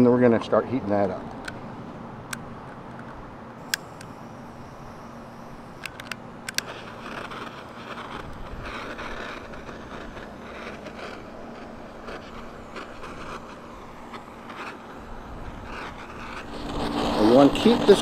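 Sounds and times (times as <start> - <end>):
torch flame hissing: 1.5 - 18.0.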